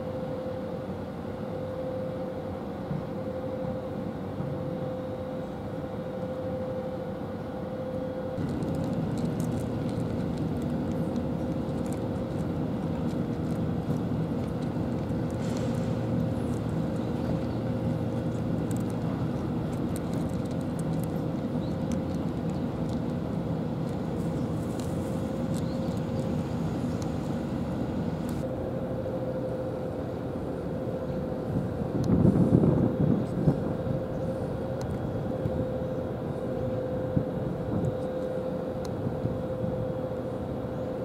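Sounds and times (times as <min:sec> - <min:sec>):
low machine hum with held tone: 0:00.0 - 0:41.0.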